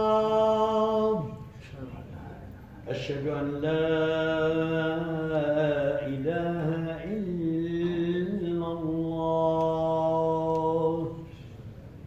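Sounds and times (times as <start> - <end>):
man chanting call to prayer: 0.0 - 1.8, 2.8 - 11.3.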